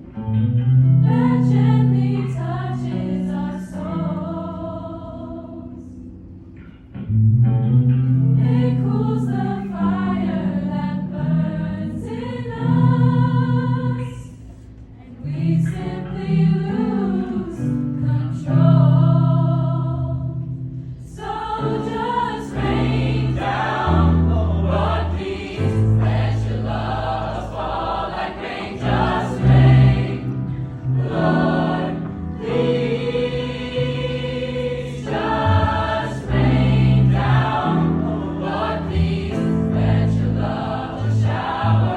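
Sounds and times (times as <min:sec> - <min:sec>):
a cappella choir singing: 0:00.8 - 0:06.2, 0:08.3 - 0:41.9.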